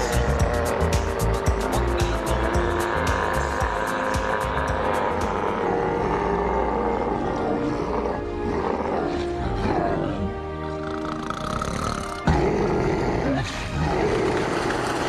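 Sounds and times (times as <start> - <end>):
animal-like roar: 0.0 - 15.0
music: 0.0 - 15.0.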